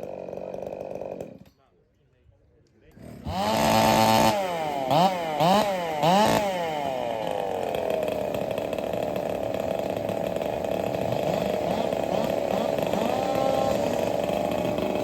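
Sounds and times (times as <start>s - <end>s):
chainsaw revving: 0.0s - 1.5s, 2.9s - 15.0s.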